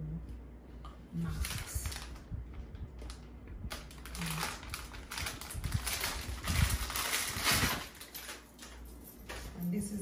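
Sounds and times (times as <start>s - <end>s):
plastic bag crinkling: 1.2s - 9.7s.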